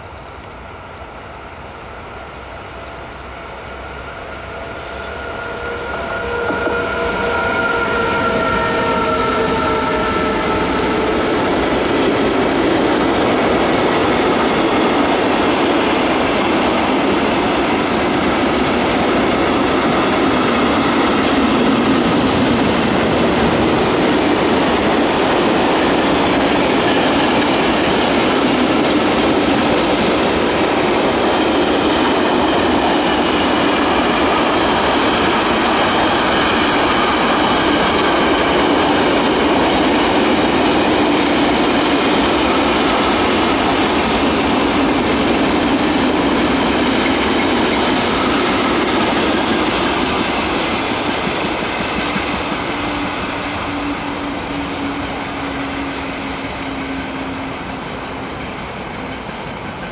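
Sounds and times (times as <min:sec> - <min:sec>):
freight train wheels clattering: 0:03.9 - 0:59.9.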